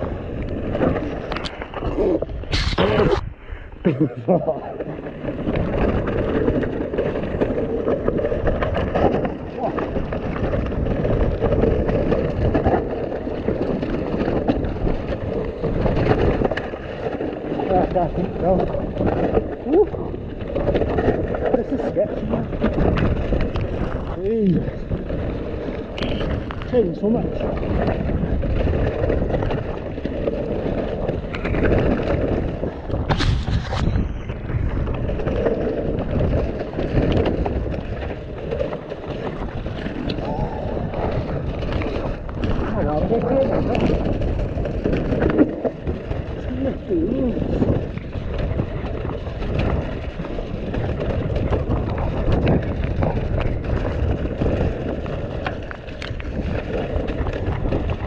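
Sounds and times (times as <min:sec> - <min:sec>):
tyres rumbling on trail: 0:00.0 - 0:58.0
wind buffeting microphone: 0:00.0 - 0:58.0
bike knocks and rattles: 0:04.3 - 0:58.0.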